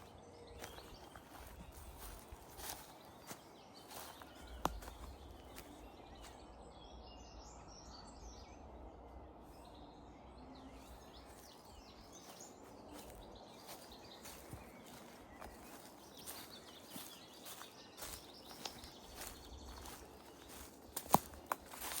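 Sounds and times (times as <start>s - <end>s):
distant birds chirping: 0.0s - 22.0s.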